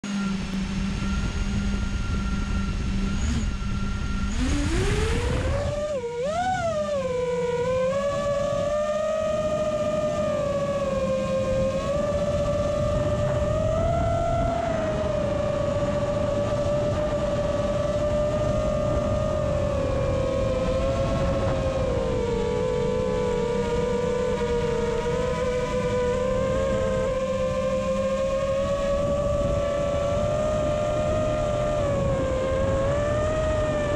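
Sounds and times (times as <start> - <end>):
drone motors whining: 0.0 - 33.9.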